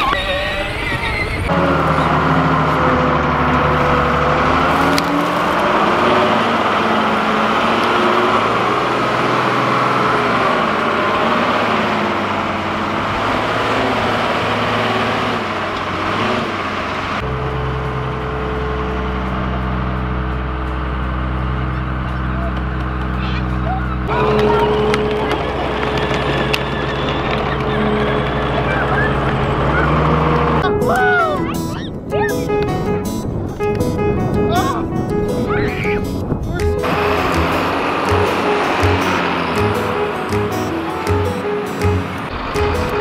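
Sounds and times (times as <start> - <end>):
wheel loader diesel engine running: 0.0 - 43.0.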